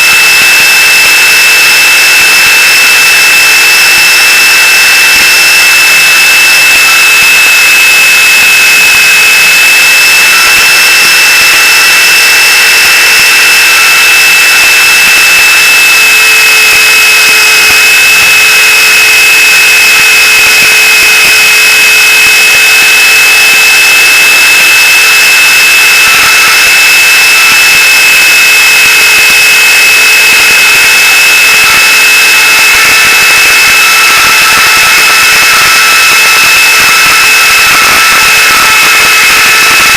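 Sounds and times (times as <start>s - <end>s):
high-pitched motor whine: 0.0s - 39.9s.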